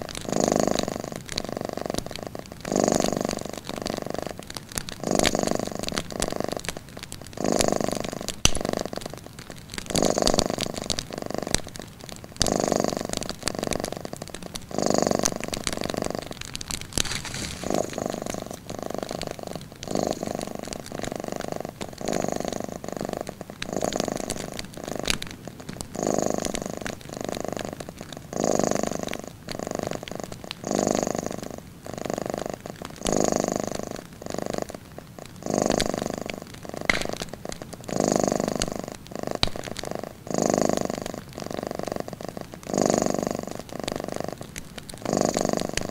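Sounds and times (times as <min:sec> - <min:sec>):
cat purring: 0:00.0 - 0:45.9
wood fire crackling: 0:00.0 - 0:45.9.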